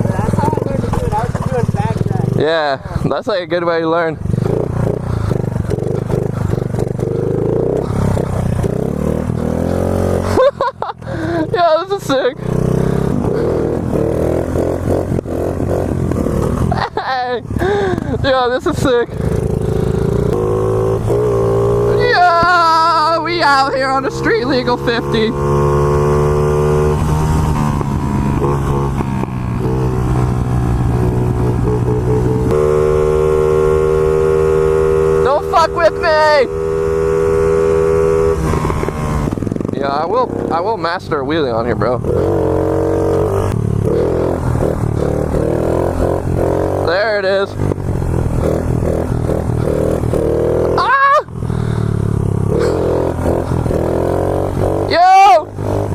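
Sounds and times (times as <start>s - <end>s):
small motorbike engine revving: 4.2s - 55.9s.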